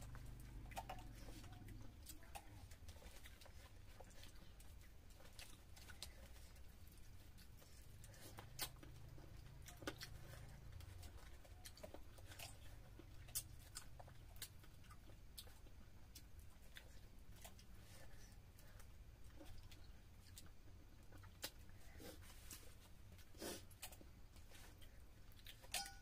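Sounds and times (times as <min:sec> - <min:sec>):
chewing sounds: 0:00.0 - 0:26.0
low steady hum: 0:00.0 - 0:26.0.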